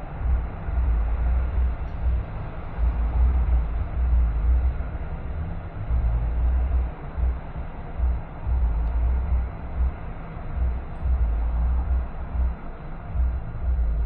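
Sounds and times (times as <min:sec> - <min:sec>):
car road noise rumble: 0:00.0 - 0:14.0.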